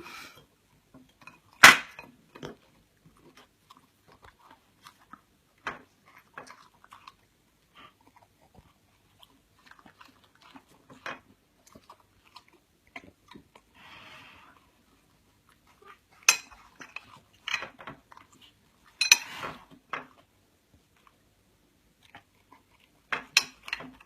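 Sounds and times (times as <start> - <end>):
dog chewing and crunching food: 0.0 - 24.0.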